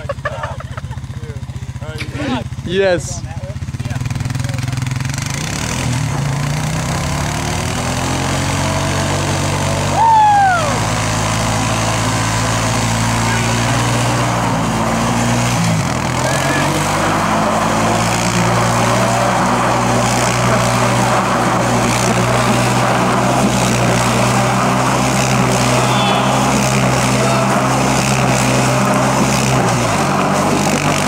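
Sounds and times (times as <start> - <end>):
quad bike engine: 0.0 - 31.0.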